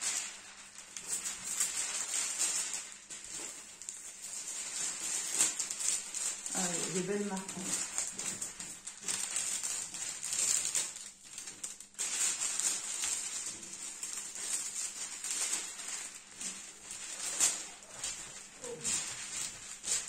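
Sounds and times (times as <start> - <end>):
canvas sheets rustling and crinkling: 0.0 - 20.0.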